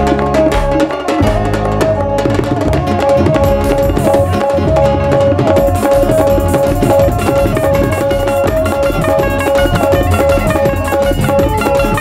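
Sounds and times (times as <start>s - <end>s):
bowed string melody: 0.0s - 12.0s
hand drum rhythm: 0.0s - 12.0s.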